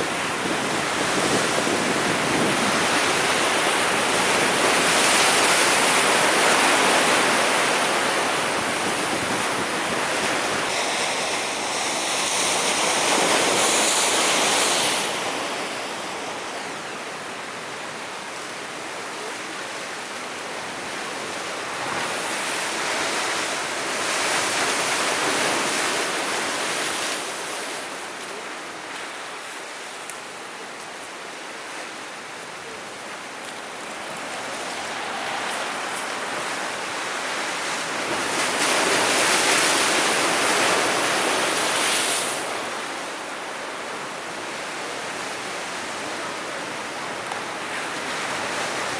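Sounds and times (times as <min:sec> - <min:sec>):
sea waves breaking on shore: 0:00.0 - 0:48.9.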